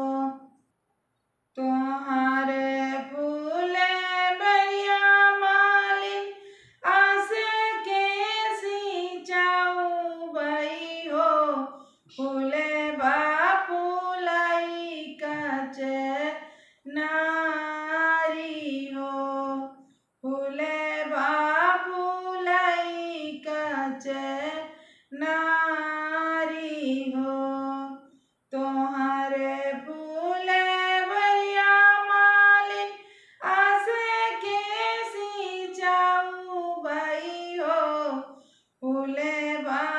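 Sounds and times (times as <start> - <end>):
woman singing unaccompanied: 0.0 - 0.5, 1.6 - 39.9.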